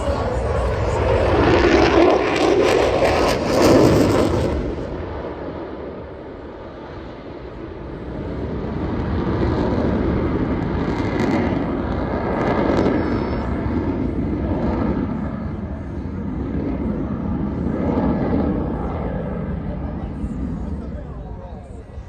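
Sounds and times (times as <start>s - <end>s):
aircraft flying past: 0.0s - 22.0s.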